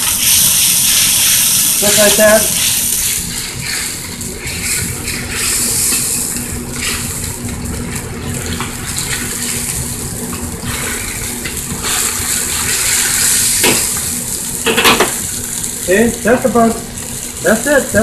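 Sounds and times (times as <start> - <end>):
sauce boiling in a wok: 0.0 - 18.0.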